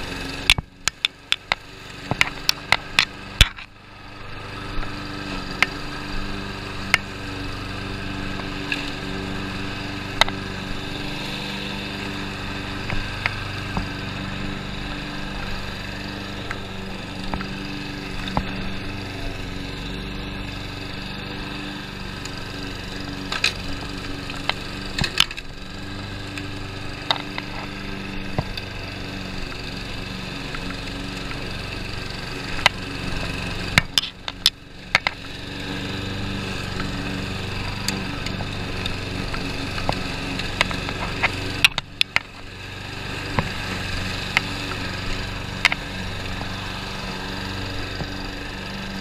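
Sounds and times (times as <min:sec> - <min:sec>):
lawn mower engine running: 0:00.0 - 0:49.0.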